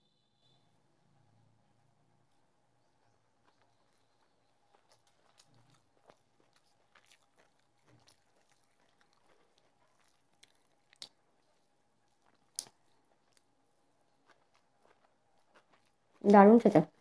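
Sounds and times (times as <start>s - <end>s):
fingers mixing rice: 2.2s - 17.0s
soft chewing: 2.2s - 17.0s.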